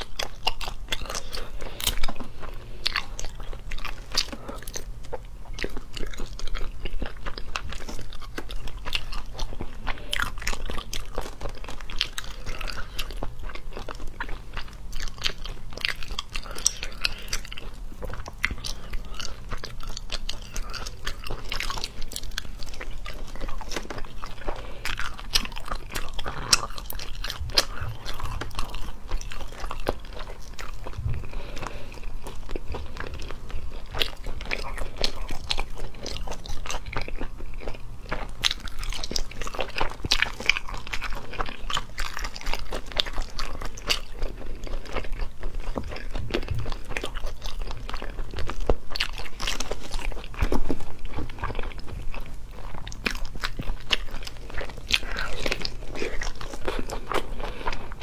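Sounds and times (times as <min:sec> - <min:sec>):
low steady hum: 0:00.0 - 0:58.0
wet chewing and crunching: 0:00.0 - 0:58.0.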